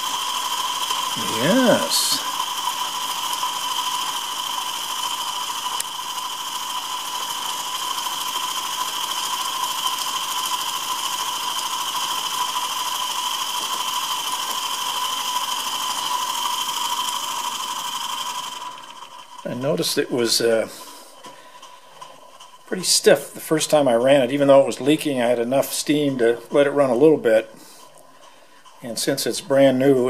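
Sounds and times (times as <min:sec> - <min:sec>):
model steam engine whirring: 0:00.0 - 0:30.0.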